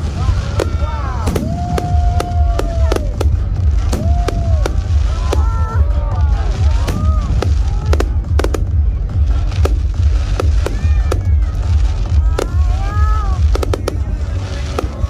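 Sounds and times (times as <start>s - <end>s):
fireworks bangs: 0.0s - 15.0s
steady low rumble: 0.0s - 15.0s.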